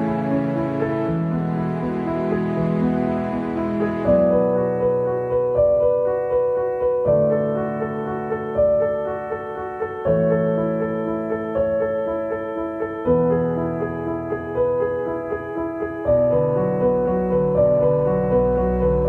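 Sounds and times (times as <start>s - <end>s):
keyboard music: 0.0s - 19.0s.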